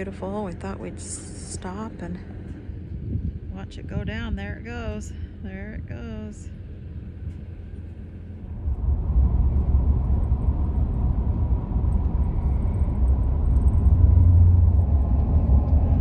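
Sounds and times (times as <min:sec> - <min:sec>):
rumble of tyres and engine: 0:00.0 - 0:16.0.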